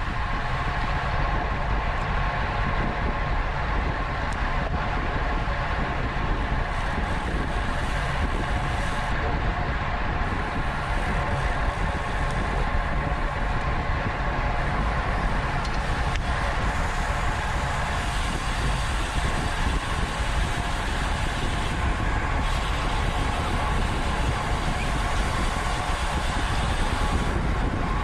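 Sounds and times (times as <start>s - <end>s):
bicycle tyres and drivetrain whir: 0.0s - 28.0s
wind rushing over microphone: 0.0s - 28.0s.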